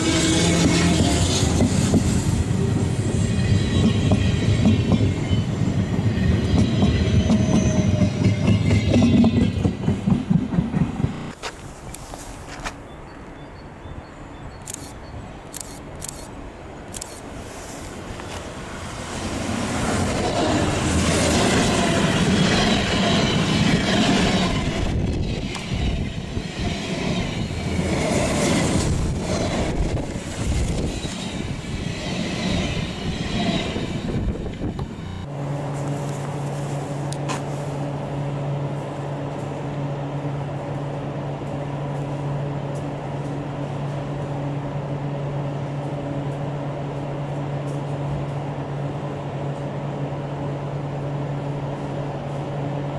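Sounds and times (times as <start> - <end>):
electric train passing: 0.0 - 11.4, 13.1 - 52.9.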